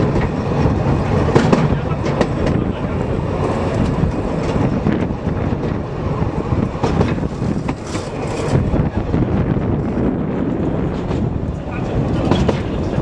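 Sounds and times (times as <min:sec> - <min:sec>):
rail clacks: 0:00.0 - 0:13.0
train wheels rumbling: 0:00.0 - 0:13.0.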